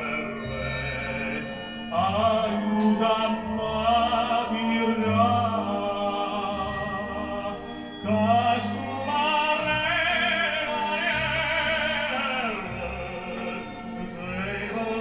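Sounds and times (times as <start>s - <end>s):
man singing operatically: 0.0s - 15.0s
orchestral accompaniment: 0.0s - 15.0s.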